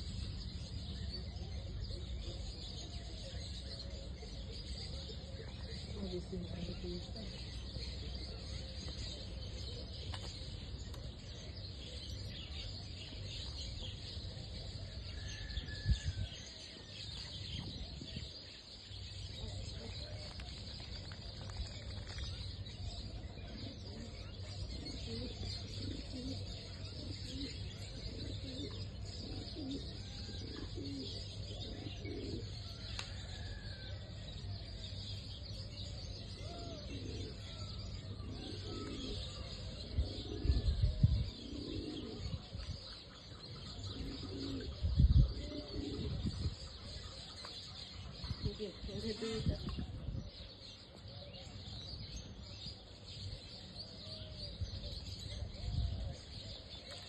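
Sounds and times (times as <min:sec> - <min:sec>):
birds cooing: 0:00.0 - 0:57.0
small birds chirping: 0:00.0 - 0:57.0.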